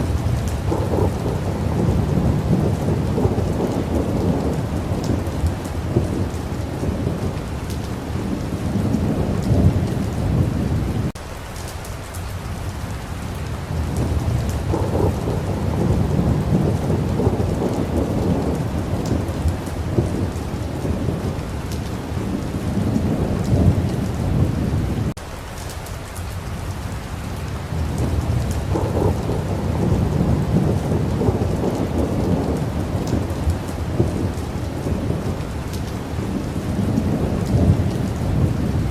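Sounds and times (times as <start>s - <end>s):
rolling thunder rumbling: 0.0s - 11.2s, 13.6s - 25.1s, 27.4s - 38.9s
steady rain falling: 0.0s - 38.9s.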